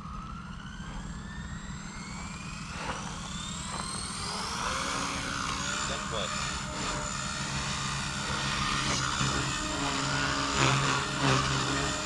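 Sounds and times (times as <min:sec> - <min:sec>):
helicopter motor and rotor whine: 0:00.0 - 0:12.0.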